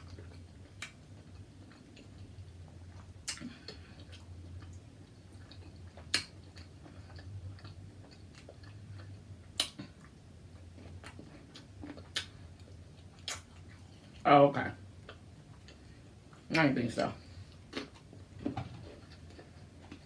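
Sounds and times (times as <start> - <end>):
person chewing: 0.0 - 14.2, 14.9 - 16.5, 17.2 - 20.0
steady low hum: 0.0 - 20.0.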